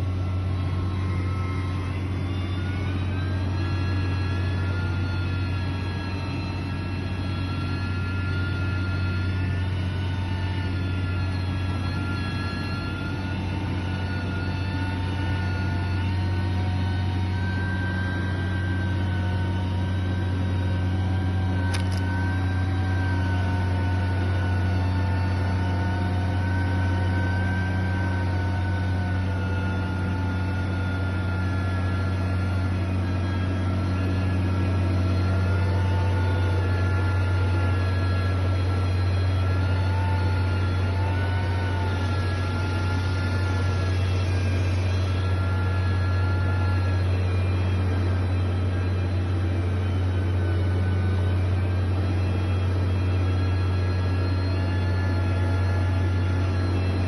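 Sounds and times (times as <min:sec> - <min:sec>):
faint wavering whine: 0:00.0 - 0:57.0
heavy machinery engine humming: 0:00.0 - 0:57.0.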